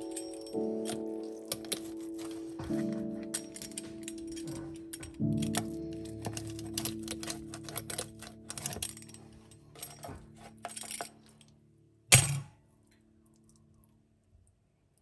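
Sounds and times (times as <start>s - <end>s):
soft background music: 0.0s - 14.2s.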